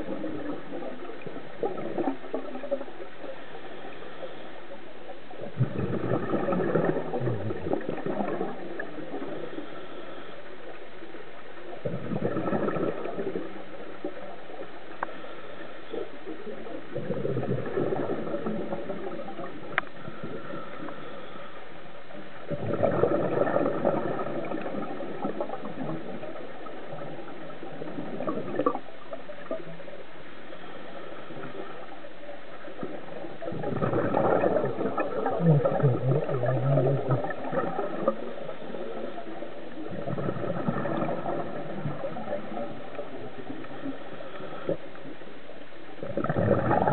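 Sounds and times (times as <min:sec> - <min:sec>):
underwater exhaled bubbles gurgling: 0:00.0 - 0:46.9.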